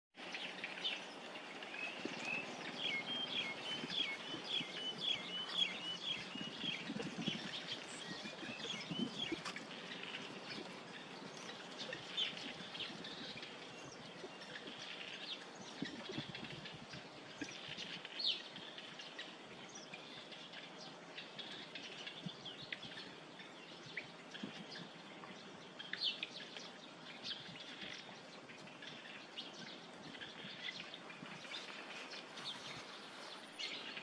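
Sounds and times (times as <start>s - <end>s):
small birds chirping: 0.2s - 34.0s
steady outdoor hiss: 0.2s - 34.0s.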